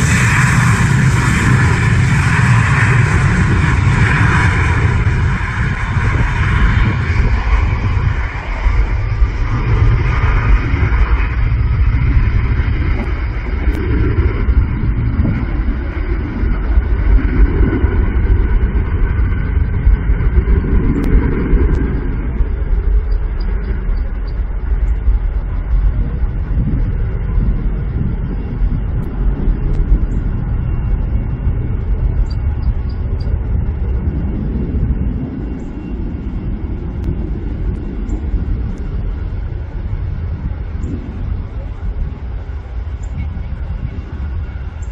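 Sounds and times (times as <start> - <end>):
jet engine whine: 0.0 - 44.9
jet engines rumbling: 0.0 - 44.9.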